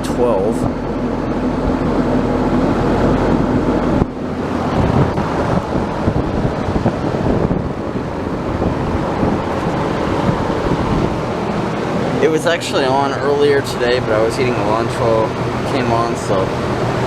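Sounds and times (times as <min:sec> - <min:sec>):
condenser fan rushing: 0:00.0 - 0:17.0
low compressor hum: 0:00.0 - 0:17.0.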